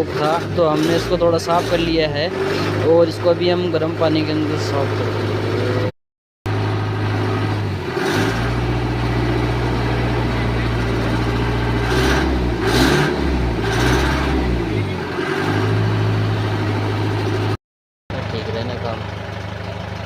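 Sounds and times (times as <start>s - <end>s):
engine humming: 0.0s - 5.9s, 6.5s - 20.0s.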